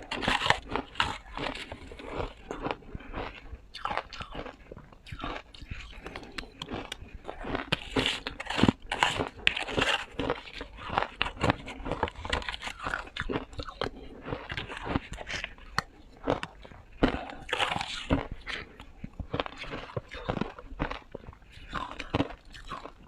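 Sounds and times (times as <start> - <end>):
ice being chewed: 0.0 - 23.0.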